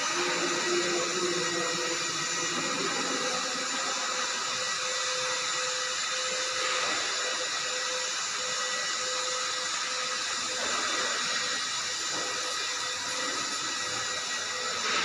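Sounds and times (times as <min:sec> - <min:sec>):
machine hiss with whining tones: 0:00.0 - 0:15.0.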